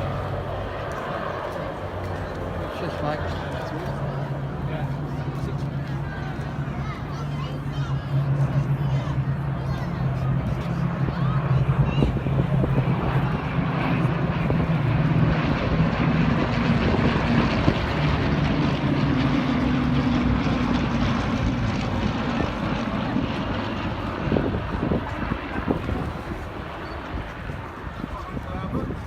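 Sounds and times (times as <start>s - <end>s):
propeller aircraft droning: 0.0s - 29.0s.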